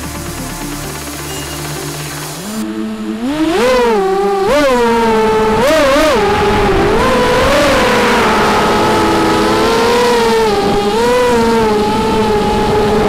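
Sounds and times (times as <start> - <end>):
quadcopter motors buzzing whine: 0.2 - 13.0.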